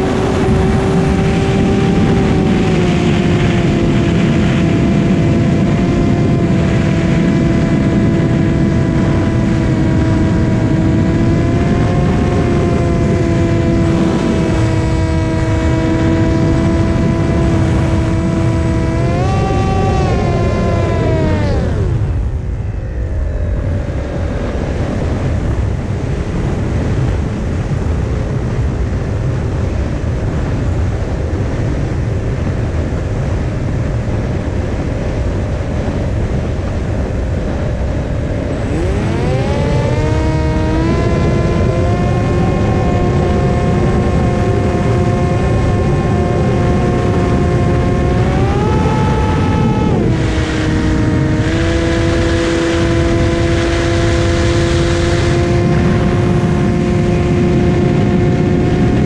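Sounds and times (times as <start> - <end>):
electric motor and propeller whining: 0.0 - 28.4, 29.6 - 59.0
wind rush: 0.0 - 59.0.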